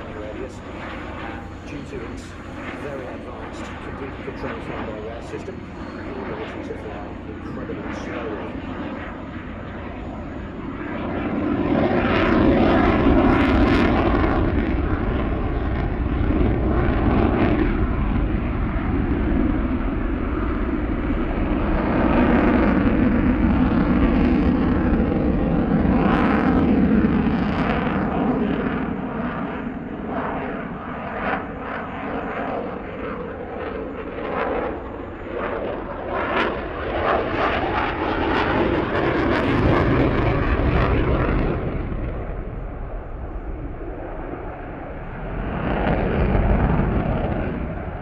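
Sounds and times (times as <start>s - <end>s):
fighter jet engines roaring: 0.0s - 48.0s.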